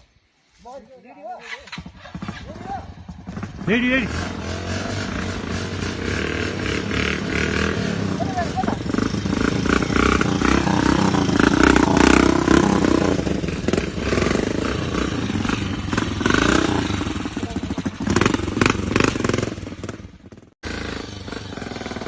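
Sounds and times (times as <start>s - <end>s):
motorcycle engine revving: 1.4s - 22.0s
engine clatter: 1.7s - 22.0s.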